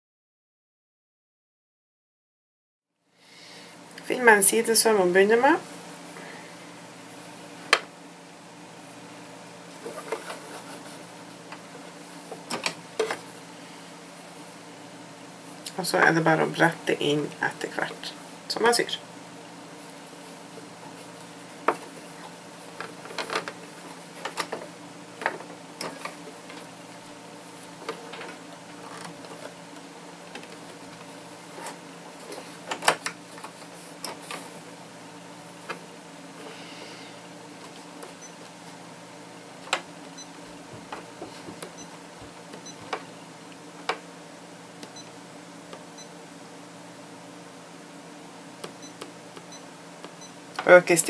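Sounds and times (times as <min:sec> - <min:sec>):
faint steady hum: 0:03.0 - 0:51.0.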